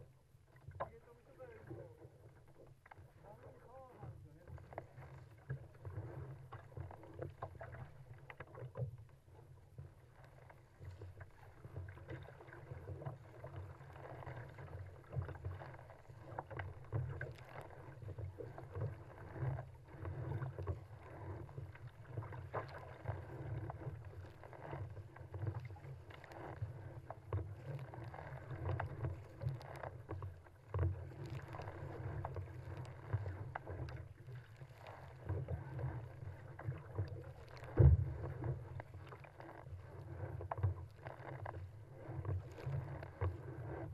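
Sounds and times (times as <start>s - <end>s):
paddle strokes splashing: 0.0s - 43.9s
waves splashing against hull: 0.0s - 43.9s.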